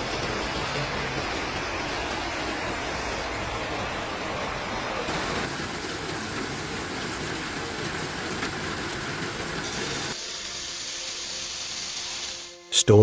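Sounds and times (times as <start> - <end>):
rain: 0.0 - 11.6.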